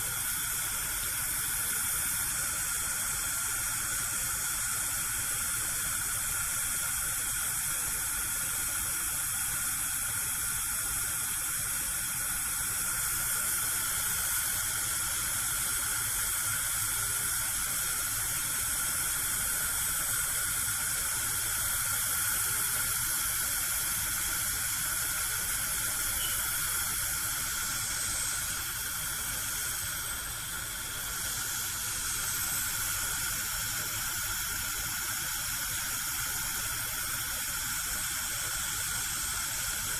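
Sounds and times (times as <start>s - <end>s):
gas burner flame hissing: 0.0s - 39.9s.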